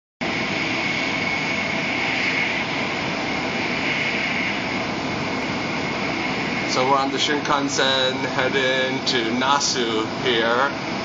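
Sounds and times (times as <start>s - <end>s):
faint high whine: 0.2s - 11.0s.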